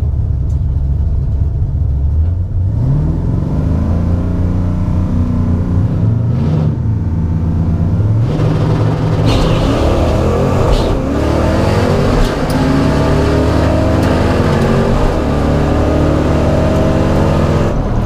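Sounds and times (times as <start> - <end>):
drag car engine at full throttle: 0.0 - 18.0.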